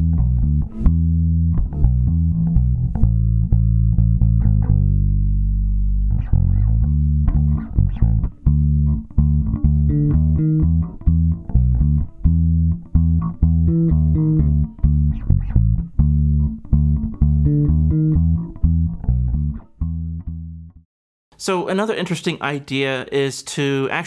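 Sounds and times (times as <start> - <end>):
electric bass guitar plucked notes: 0.0 - 20.8.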